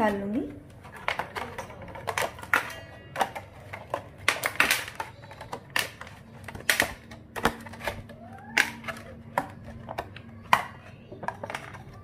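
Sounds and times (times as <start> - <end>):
plastic mould clicking and cracking: 0.7 - 12.0.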